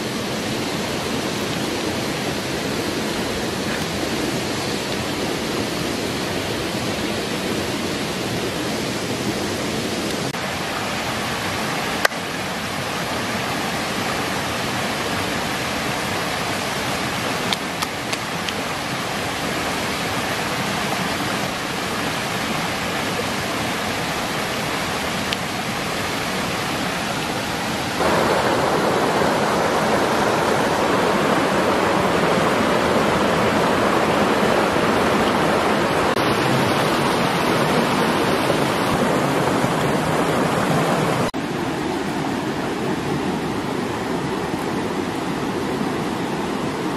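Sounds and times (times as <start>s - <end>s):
stream water running over rocks: 0.0s - 46.9s.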